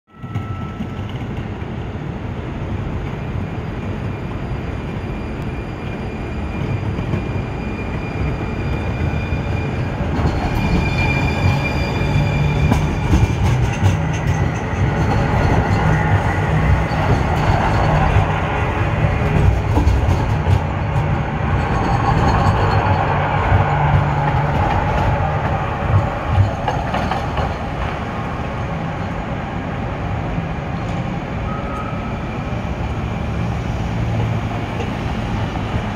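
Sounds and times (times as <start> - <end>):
light rail trains rumbling: 0.1 - 35.9.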